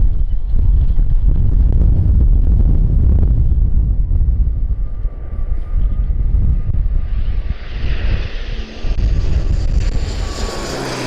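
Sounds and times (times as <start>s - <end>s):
airliner engines whining: 0.0s - 11.0s
wind rumble on microphone: 0.0s - 11.0s.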